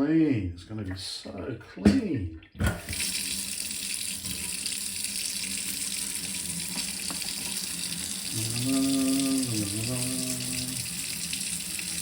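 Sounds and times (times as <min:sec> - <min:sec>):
tap water running: 0:01.8 - 0:12.0.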